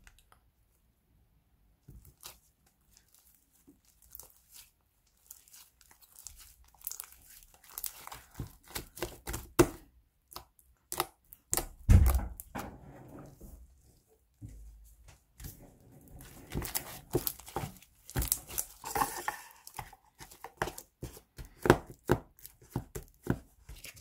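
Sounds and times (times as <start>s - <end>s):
deep slime squish: 1.8s - 12.6s, 15.4s - 24.0s.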